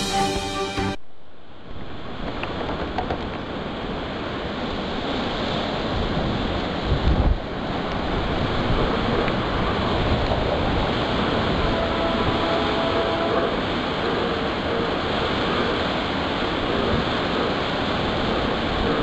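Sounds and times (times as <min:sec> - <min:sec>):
low wind gust buffeting: 0:01.0 - 0:19.0
storm wind: 0:01.0 - 0:19.0
wind-driven rain: 0:01.0 - 0:19.0.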